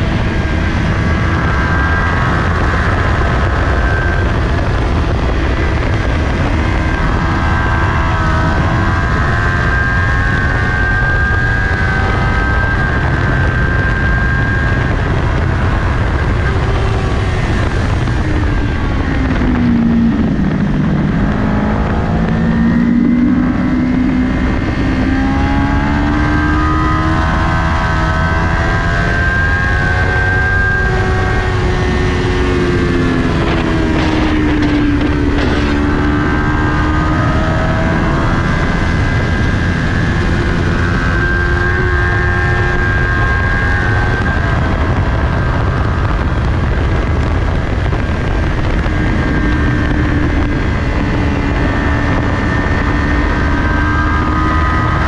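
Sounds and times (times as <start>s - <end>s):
heavy wind noise: 0.0s - 55.0s
motorcycle engine revving: 0.0s - 55.0s.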